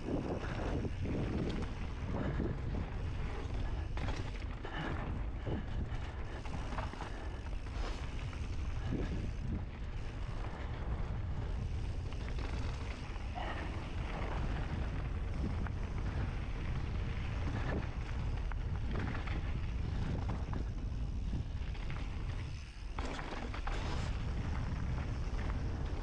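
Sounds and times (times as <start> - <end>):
bike rattling and knocking: 0.0 - 26.0
bike tyre noise on dirt: 0.0 - 26.0
wind rushing over microphone: 0.0 - 26.0.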